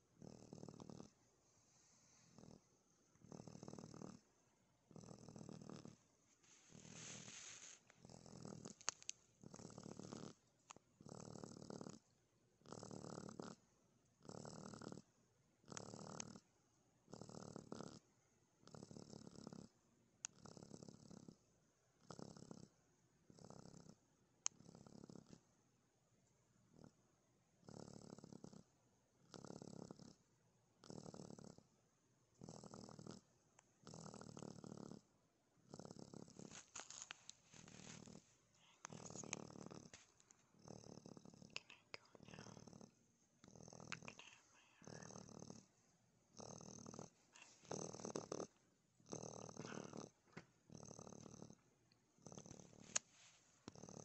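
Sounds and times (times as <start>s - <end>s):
baby raccoon purring: 0.0s - 25.5s, 26.6s - 27.0s, 27.6s - 54.0s.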